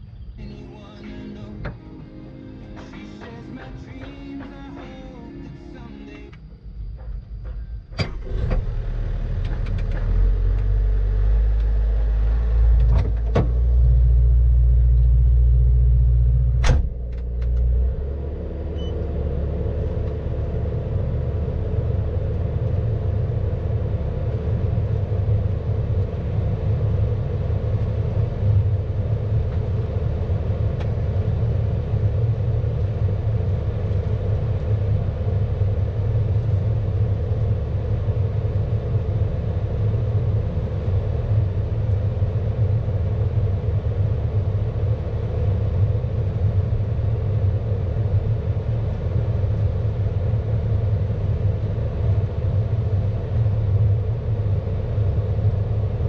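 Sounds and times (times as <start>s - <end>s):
diesel engine low rumble: 0.0s - 56.0s.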